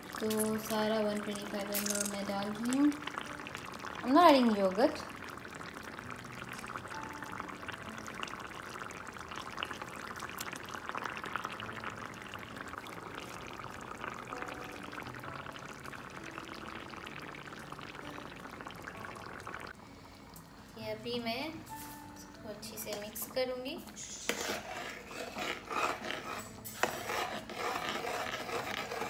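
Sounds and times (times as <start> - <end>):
sauce bubbling and crackling: 0.0 - 20.6, 22.9 - 29.0.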